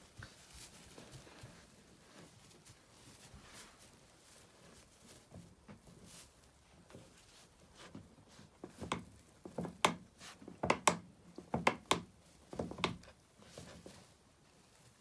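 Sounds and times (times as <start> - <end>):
hay crunching and rustling: 0.0 - 9.5, 12.2 - 15.0.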